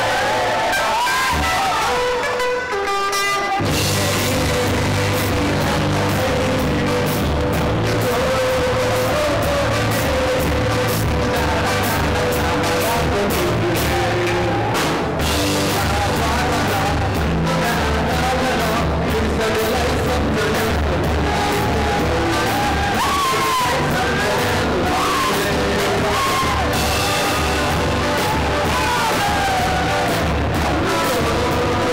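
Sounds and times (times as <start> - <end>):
drum kit: 0.0 - 31.9
electric bass: 0.0 - 31.9
electric guitar: 0.0 - 31.9.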